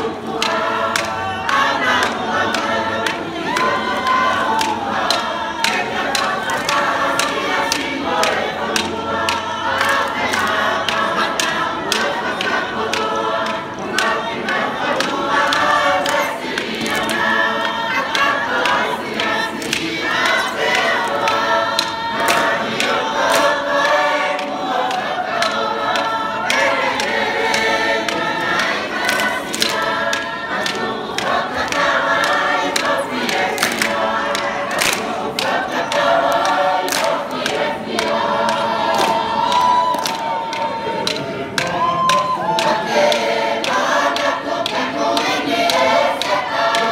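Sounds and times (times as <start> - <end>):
mixed choir singing: 0.0 - 46.9
sharp hand claps: 0.0 - 46.9.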